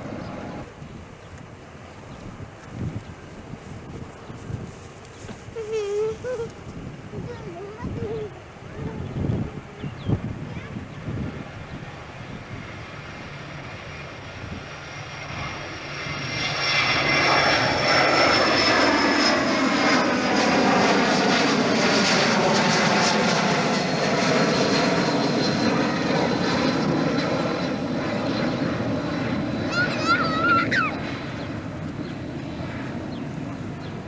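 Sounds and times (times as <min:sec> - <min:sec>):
airliner engine whine passing: 0:00.0 - 0:34.0.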